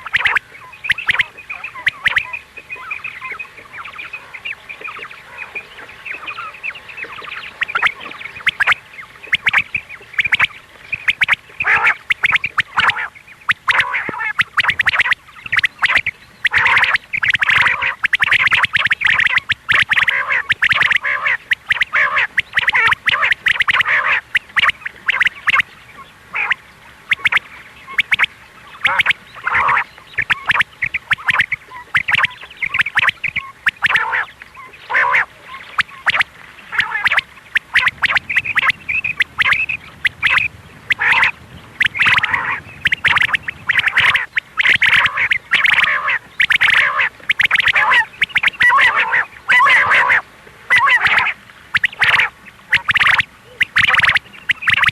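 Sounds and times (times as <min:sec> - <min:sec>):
quail calling: 0:00.0 - 0:54.9.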